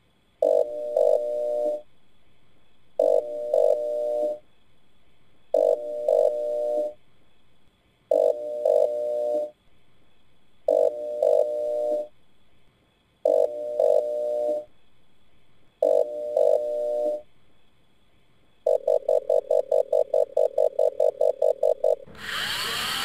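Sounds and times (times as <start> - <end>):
faint steady high tone: 0.0 - 22.7.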